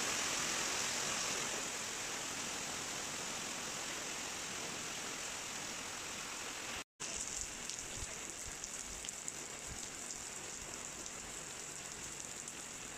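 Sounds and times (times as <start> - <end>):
heavy rain hissing: 0.0 - 12.9.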